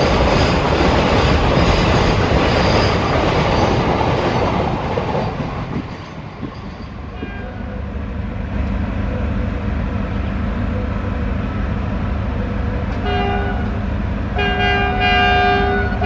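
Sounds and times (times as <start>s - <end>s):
diesel locomotive drone: 0.0s - 16.0s.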